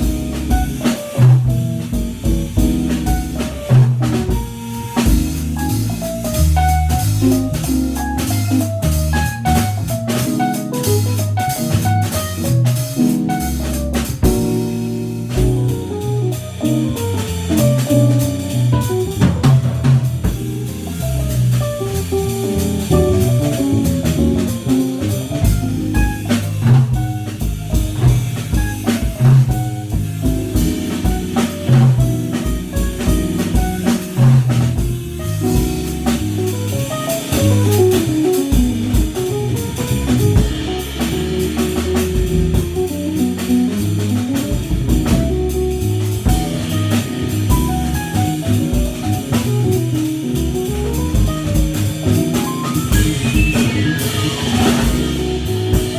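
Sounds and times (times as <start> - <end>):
bass: 0.0 - 55.9
drum kit groove: 0.0 - 55.9.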